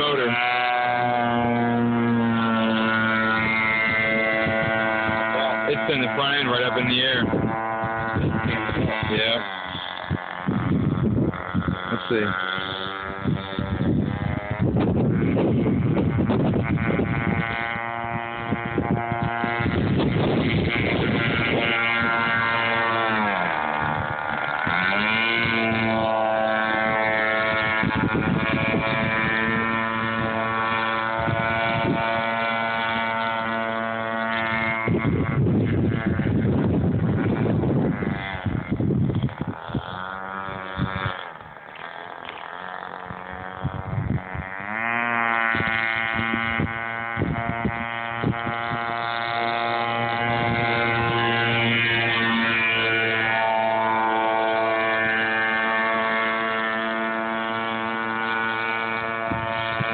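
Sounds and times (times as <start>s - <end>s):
model boat motor whining: 0.0s - 59.9s.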